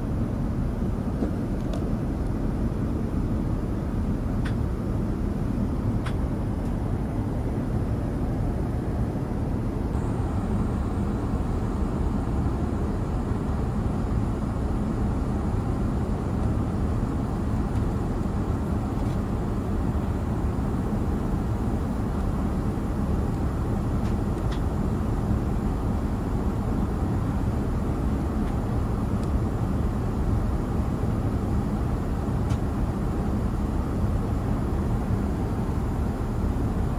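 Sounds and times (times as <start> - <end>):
airplane cabin rumble: 0.0 - 36.9.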